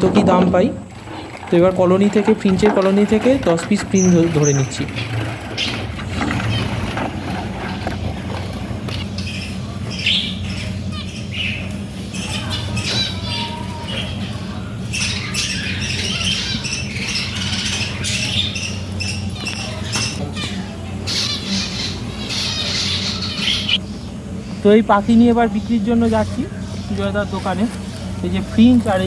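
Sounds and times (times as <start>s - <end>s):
finches chirping: 0.0s - 29.0s
steady low hum: 0.0s - 29.0s.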